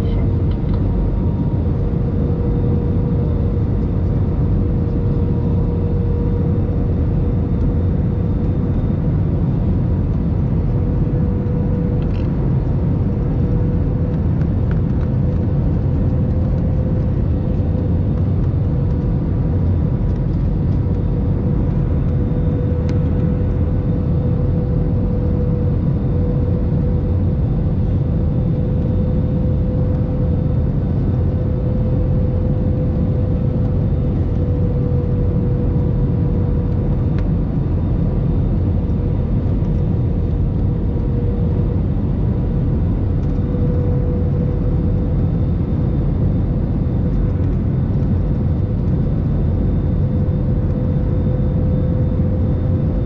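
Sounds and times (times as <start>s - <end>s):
jet engines and airflow rumble: 0.0s - 53.0s
steady mid-pitched hum: 0.0s - 53.0s.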